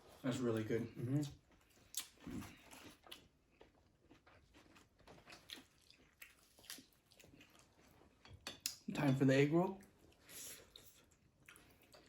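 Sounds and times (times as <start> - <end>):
chewing and mouth sounds: 0.0 - 8.9, 9.8 - 12.0.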